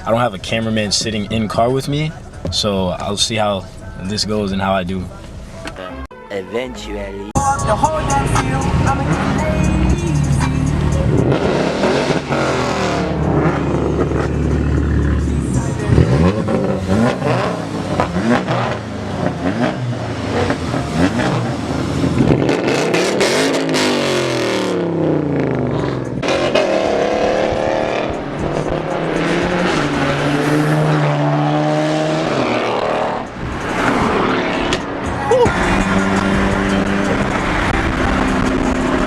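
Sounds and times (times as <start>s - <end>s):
car engine accelerating: 7.7s - 39.0s.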